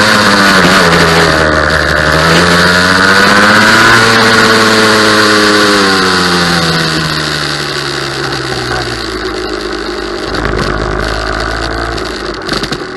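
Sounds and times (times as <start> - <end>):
kart engine decelerating: 0.0 - 12.9
tyre noise: 0.0 - 12.9
wind: 0.0 - 12.9.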